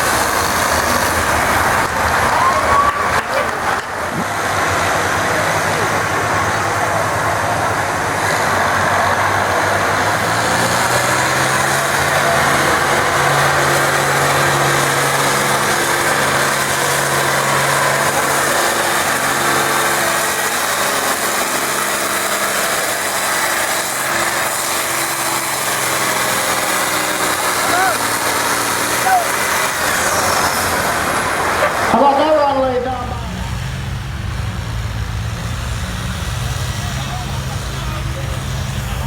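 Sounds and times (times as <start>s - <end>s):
outdoor background noise: 0.0s - 39.0s
tractor engine running: 0.0s - 39.0s.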